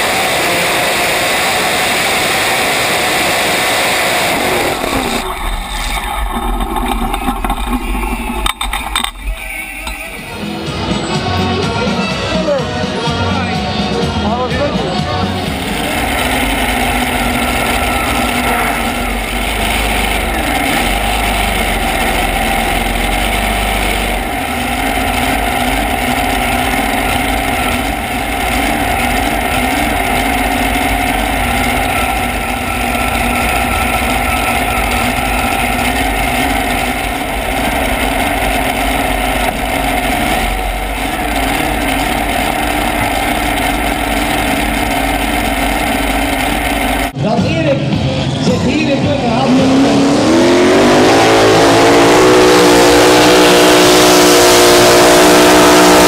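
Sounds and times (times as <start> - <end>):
tractor engine idling: 0.0 - 47.2.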